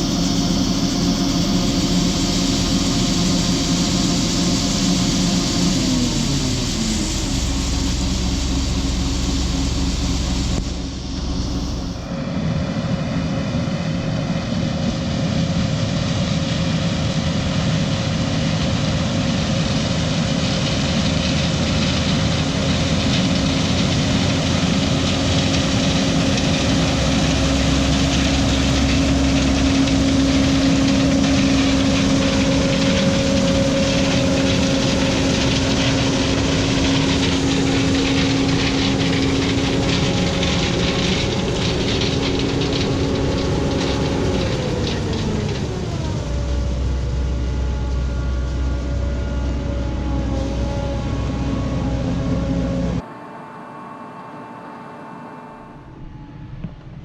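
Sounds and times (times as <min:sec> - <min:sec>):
farm machine engine humming: 0:00.0 - 0:53.2.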